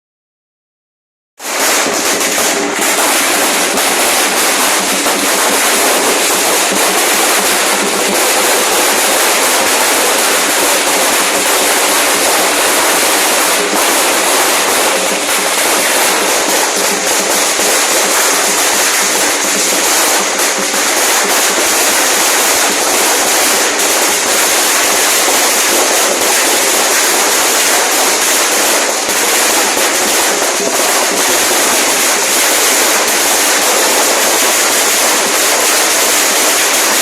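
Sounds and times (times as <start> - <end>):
firecrackers crackling: 1.4 - 37.0.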